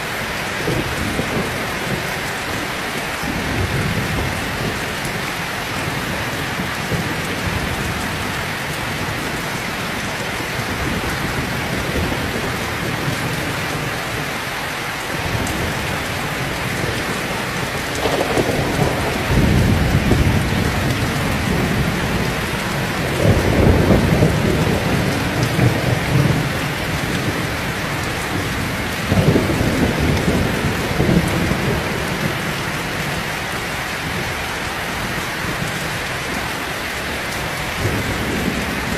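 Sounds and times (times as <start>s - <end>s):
thunder rumbling: 0.0s - 14.4s, 15.1s - 38.9s
heavy rain pouring: 0.0s - 38.9s.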